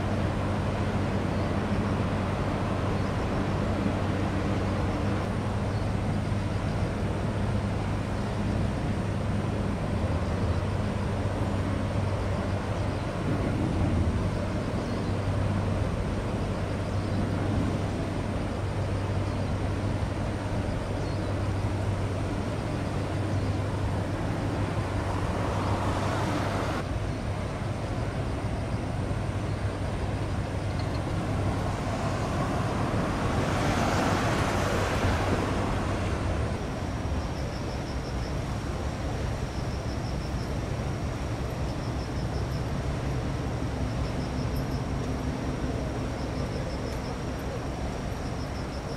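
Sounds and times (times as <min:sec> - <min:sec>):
ship engine drone: 0:00.0 - 0:48.9
wind and water rushing: 0:00.0 - 0:48.9.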